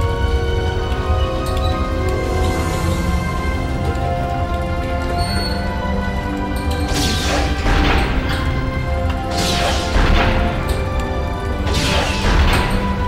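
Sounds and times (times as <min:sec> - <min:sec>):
sustained dramatic film music: 0:00.0 - 0:13.0.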